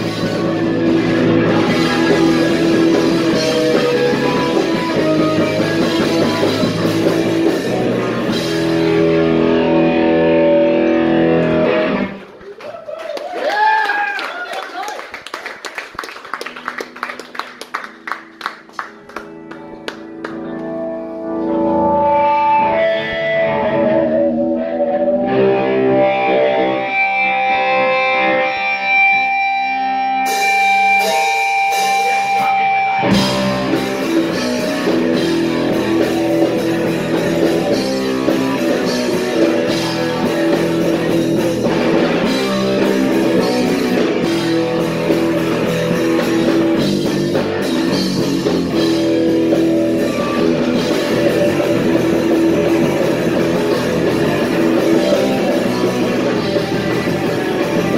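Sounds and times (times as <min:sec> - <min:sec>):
electric guitar ringing notes: 0:00.0 - 0:12.2, 0:16.7 - 0:57.9
punk rock band playing: 0:00.0 - 0:12.4, 0:16.2 - 0:57.9
drums: 0:00.0 - 0:12.8, 0:16.0 - 0:57.9.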